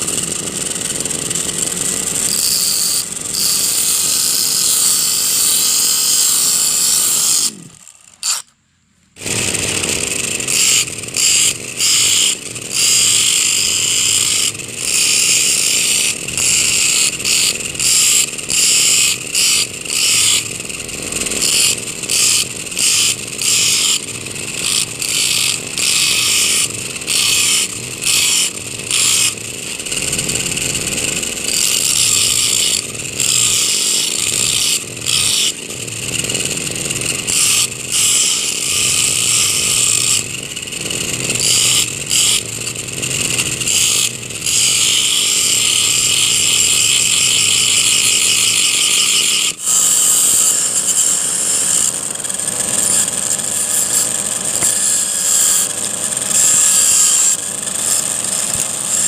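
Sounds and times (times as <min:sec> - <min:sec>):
brush cutter engine running: 0:00.0 - 0:08.5, 0:09.2 - 0:59.0
disc grinding steel: 0:00.0 - 0:08.5, 0:09.2 - 0:59.0.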